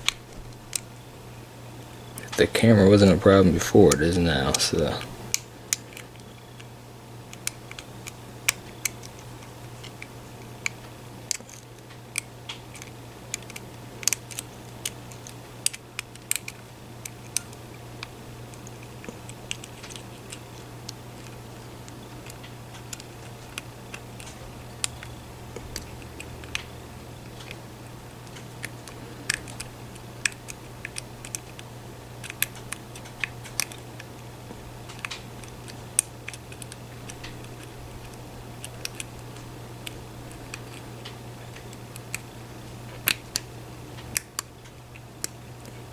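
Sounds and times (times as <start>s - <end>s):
steady low hum: 0.0s - 45.9s
lock picks clicking in a lock: 5.3s - 34.2s, 34.8s - 45.8s.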